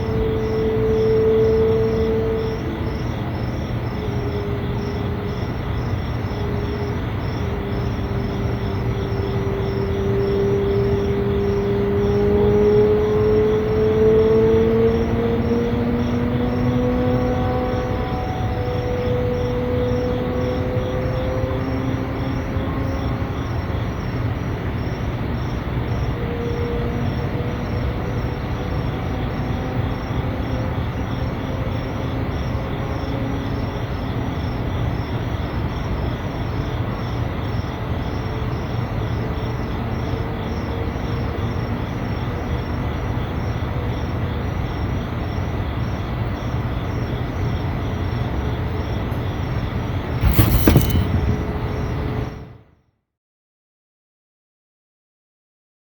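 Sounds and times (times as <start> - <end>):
insects chirping: 0.0 - 17.0, 17.7 - 28.6, 31.0 - 52.0.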